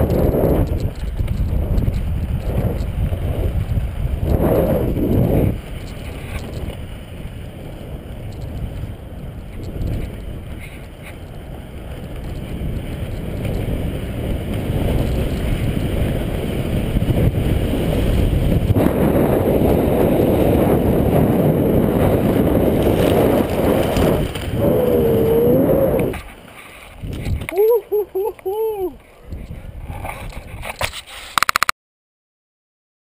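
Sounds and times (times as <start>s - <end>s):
skate wheels rolling on dirt: 0.0s - 31.7s.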